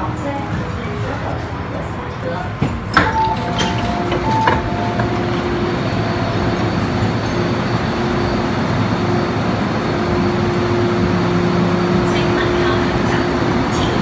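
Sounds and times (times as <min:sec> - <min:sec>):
steady hum: 0:00.0 - 0:14.0
train rush with low rumble: 0:00.0 - 0:14.0.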